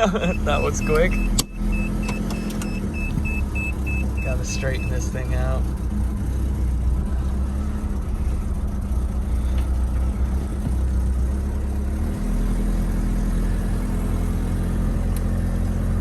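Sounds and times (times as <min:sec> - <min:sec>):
car engine running at low speed: 0:00.0 - 0:16.0.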